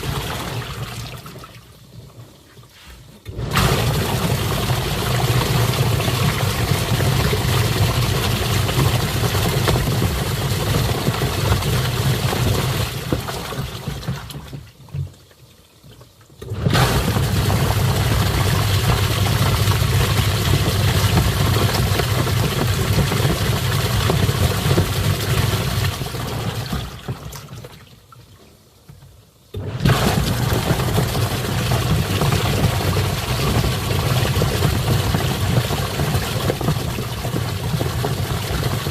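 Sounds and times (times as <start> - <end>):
washing machine churning water: 0.0 - 2.4, 3.2 - 28.1, 29.4 - 38.9.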